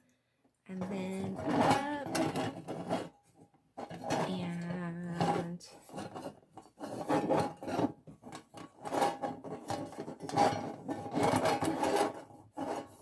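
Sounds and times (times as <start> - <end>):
sheet metal scraping and rubbing: 0.8 - 13.0.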